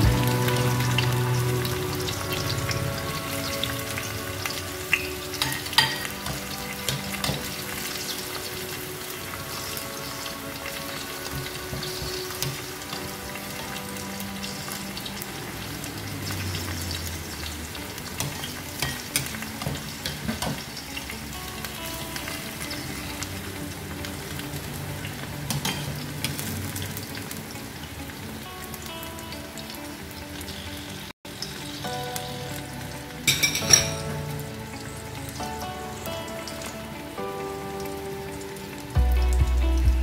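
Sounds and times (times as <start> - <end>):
food sizzling in oil: 0.0 - 39.0.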